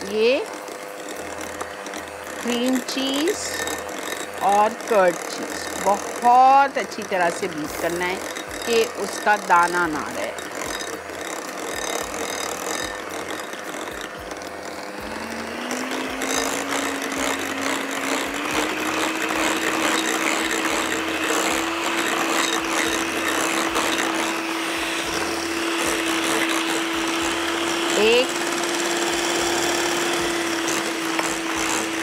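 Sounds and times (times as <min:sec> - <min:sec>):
electric hand mixer whining: 0:00.0 - 0:32.0.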